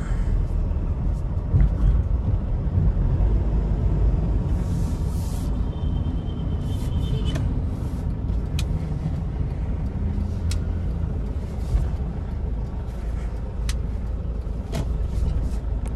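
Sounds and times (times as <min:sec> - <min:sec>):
car engine rumble: 0:00.0 - 0:15.9.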